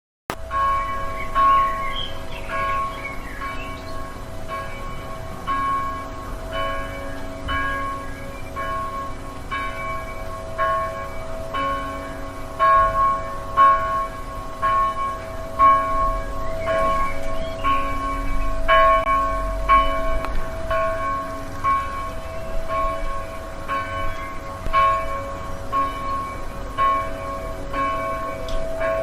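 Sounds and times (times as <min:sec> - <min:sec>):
church bell ringing: 0:00.3 - 0:29.0.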